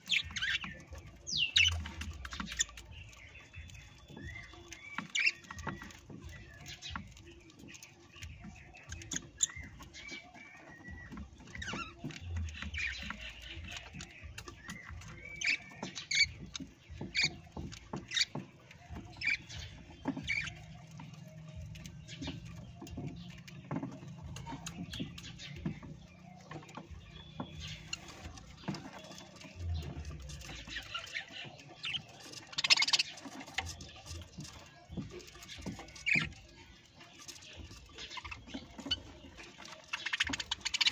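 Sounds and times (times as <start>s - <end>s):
parrots chirping: 0.0s - 40.9s
small clicks and scratching: 0.0s - 40.9s.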